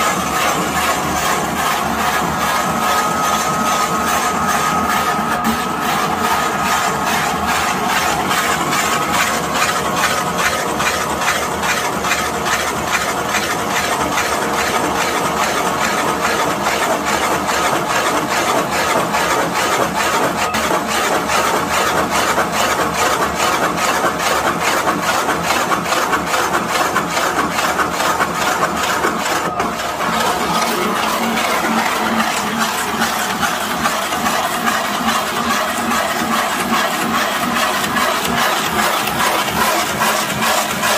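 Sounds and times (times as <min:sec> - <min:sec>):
lathe cutter rattling through wood: 0:00.0 - 0:40.9.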